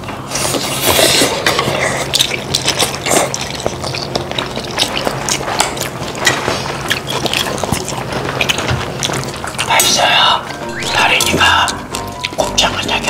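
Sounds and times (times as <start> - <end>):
people chewing food close up: 0.0 - 13.0.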